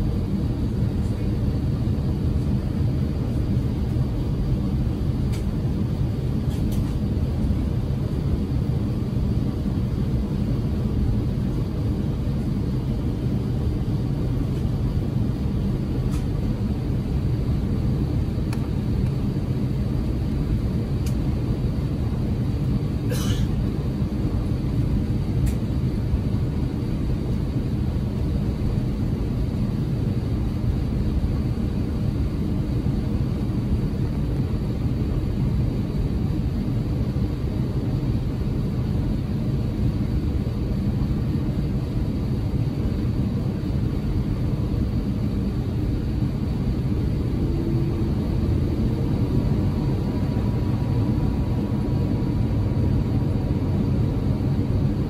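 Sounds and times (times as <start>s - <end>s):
aircraft cabin low rumble: 0.0s - 55.0s.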